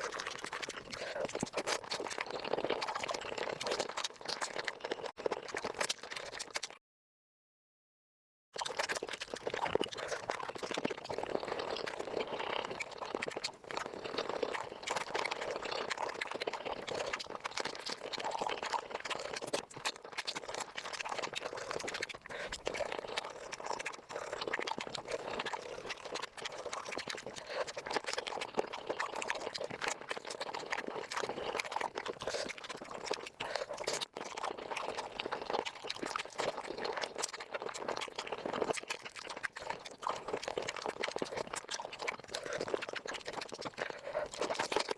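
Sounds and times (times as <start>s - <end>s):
wet chewing and crunching: 0.0s - 6.8s, 8.6s - 44.9s.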